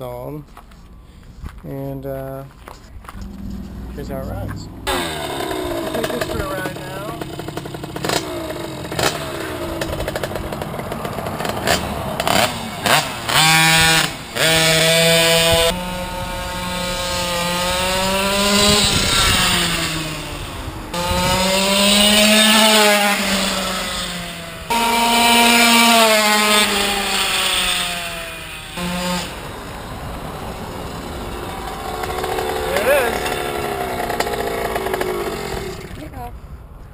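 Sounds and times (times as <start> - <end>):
two-stroke moped engine revving: 3.1 - 36.3.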